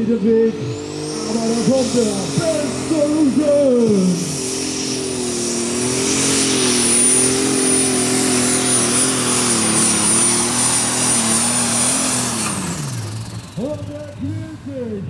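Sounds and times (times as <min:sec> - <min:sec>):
diesel tractor engine at full power: 0:00.0 - 0:15.0
turbo whine: 0:00.0 - 0:15.0.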